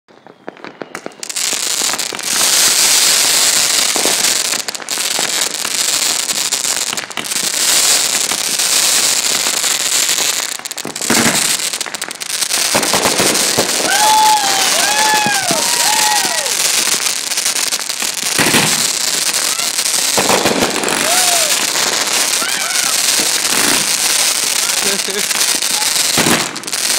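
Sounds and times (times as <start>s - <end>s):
fireworks crackling and hissing: 0.1s - 26.9s
fireworks popping: 0.1s - 26.9s.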